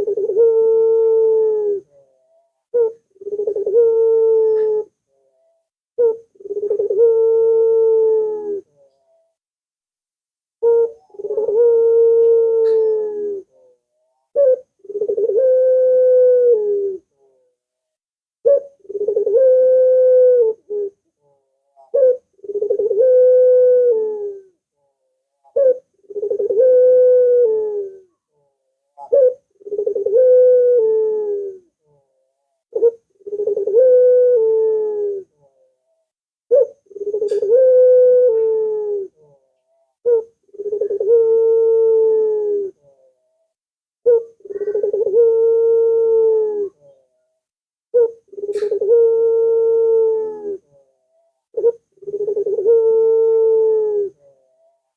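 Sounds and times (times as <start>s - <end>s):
dove cooing: 0.0s - 9.4s, 10.6s - 17.5s, 18.4s - 24.6s, 25.4s - 47.2s, 47.9s - 54.9s.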